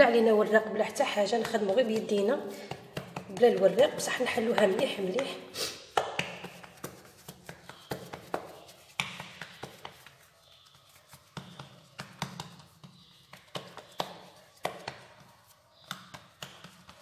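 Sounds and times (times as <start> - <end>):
hands patting dough: 0.0 - 17.0.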